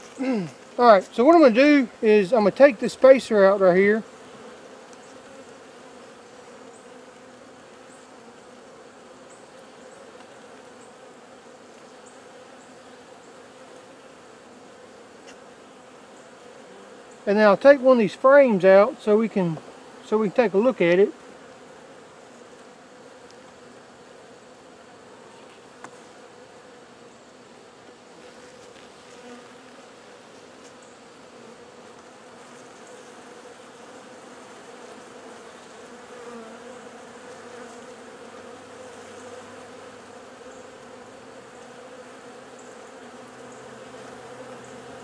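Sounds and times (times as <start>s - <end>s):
bee colony buzzing: 0.0s - 45.0s.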